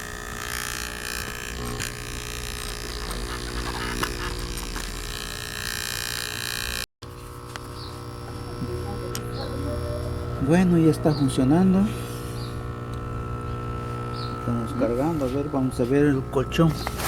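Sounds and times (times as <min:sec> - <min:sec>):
air compressor motor hum: 0:00.0 - 0:17.0.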